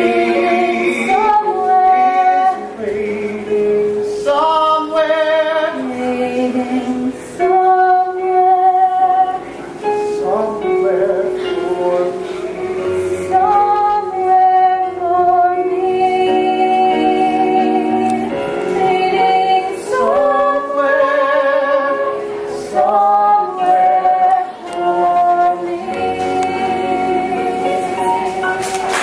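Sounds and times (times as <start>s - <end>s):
musical accompaniment: 0.0s - 29.0s
woman singing with vibrato: 0.0s - 29.0s.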